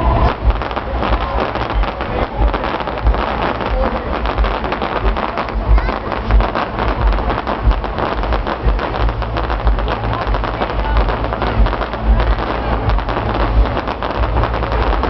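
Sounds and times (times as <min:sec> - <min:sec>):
fireworks crackling and popping: 0:00.0 - 0:15.0
fireworks low booms: 0:00.0 - 0:15.0.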